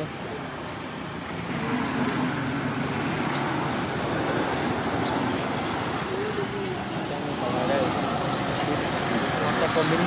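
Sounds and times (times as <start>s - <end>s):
rushing vehicle noise: 0.0s - 10.0s.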